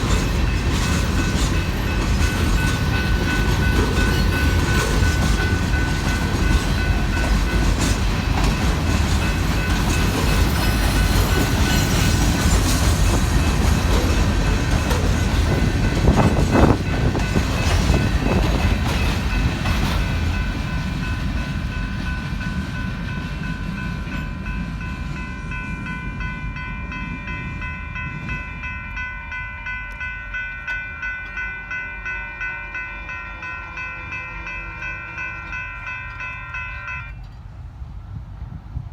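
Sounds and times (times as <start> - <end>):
freight train rumbling and clattering: 0.0 - 32.7, 33.3 - 38.9.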